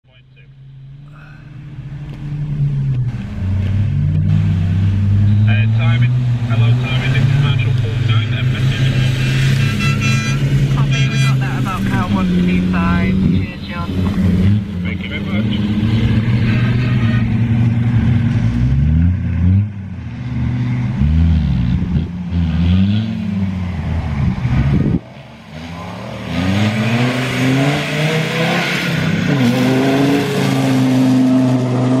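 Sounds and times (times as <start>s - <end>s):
off-road engines revving hard: 1.2s - 32.0s.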